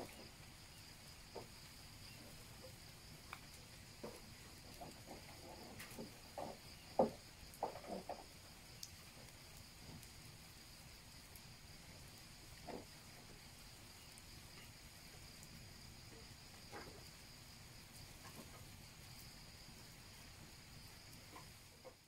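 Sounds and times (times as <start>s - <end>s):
campfire popping: 0.0s - 22.0s
crickets droning: 0.0s - 22.0s.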